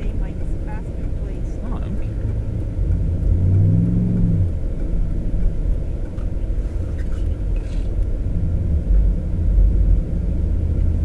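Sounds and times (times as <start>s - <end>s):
car interior engine and road rumble: 0.0s - 11.0s.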